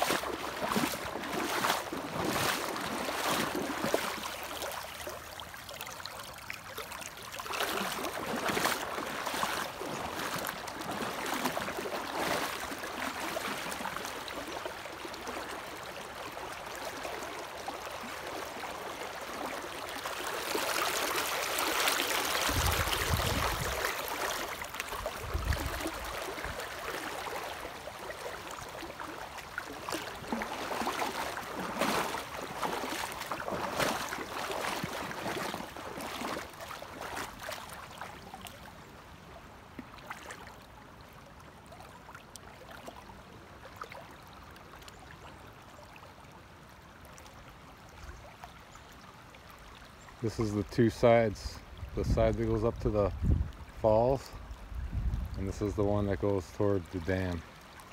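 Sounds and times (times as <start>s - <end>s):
river rushing around wading boots: 0.0s - 48.6s, 49.3s - 57.9s.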